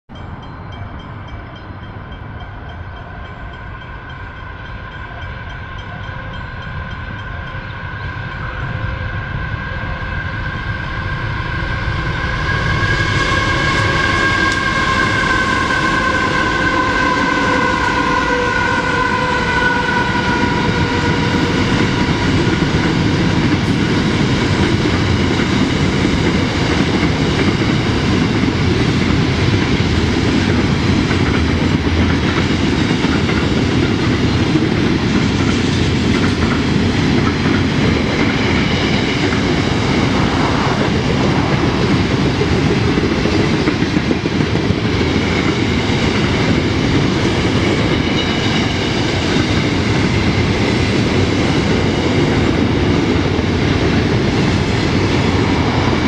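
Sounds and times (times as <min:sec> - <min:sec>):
diesel locomotive whine: 0:00.1 - 0:56.0.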